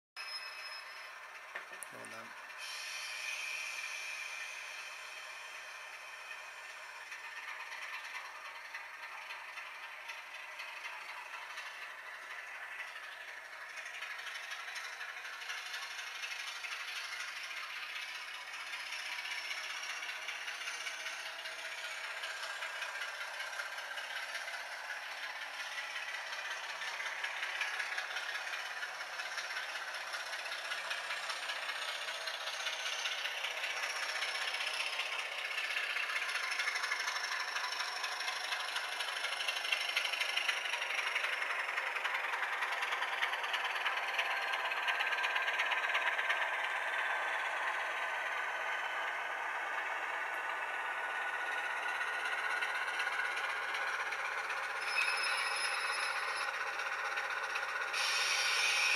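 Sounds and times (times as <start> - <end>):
model diesel engine sound: 0.2 - 58.9.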